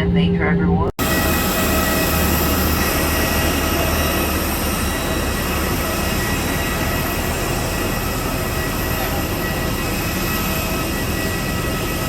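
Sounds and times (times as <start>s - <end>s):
vehicle engine drone with whine: 0.0s - 12.0s.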